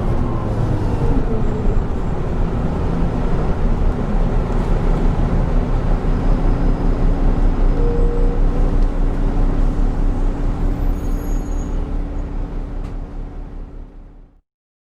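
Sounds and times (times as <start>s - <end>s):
bus diesel engine droning: 0.0s - 14.4s.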